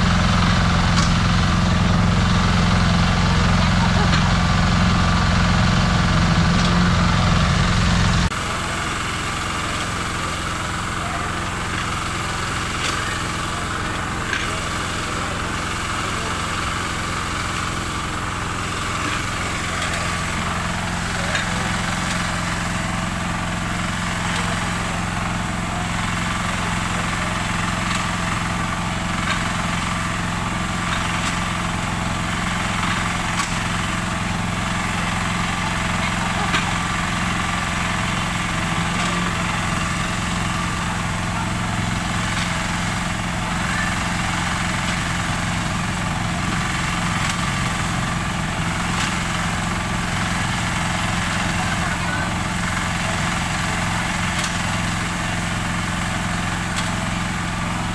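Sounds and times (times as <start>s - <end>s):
engine idling: 0.0s - 57.9s.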